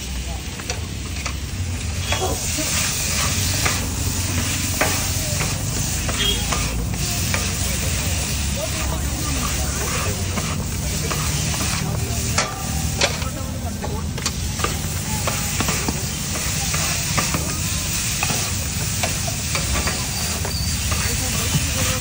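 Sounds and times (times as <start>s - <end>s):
steady sizzle: 0.0s - 22.0s
metal spatula scraping griddle: 1.1s - 22.0s.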